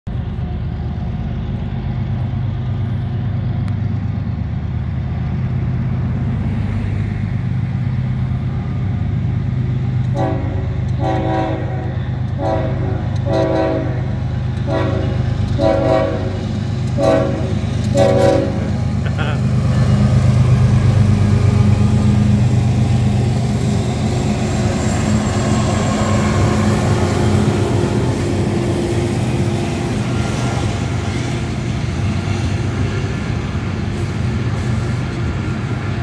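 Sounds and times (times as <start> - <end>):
locomotive low rumble: 0.1 - 36.0.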